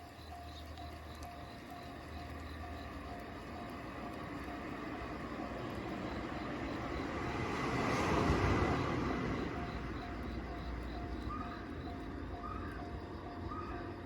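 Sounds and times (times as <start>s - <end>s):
electric train running: 0.0s - 14.0s.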